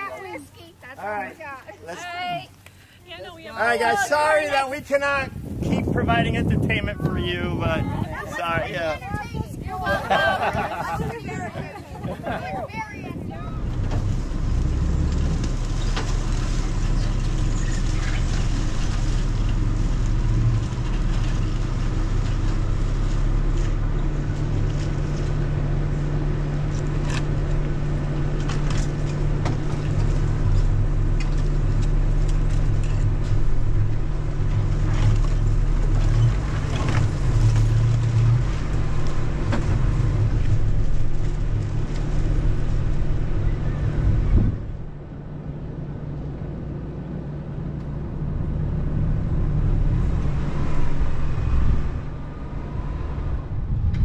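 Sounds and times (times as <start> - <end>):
vehicle rumbling on dirt trail: 0.0 - 54.0.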